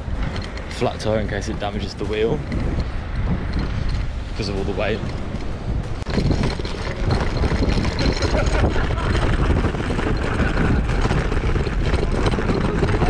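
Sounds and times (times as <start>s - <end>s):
bicycle rattling over paving stones: 0.0s - 13.0s.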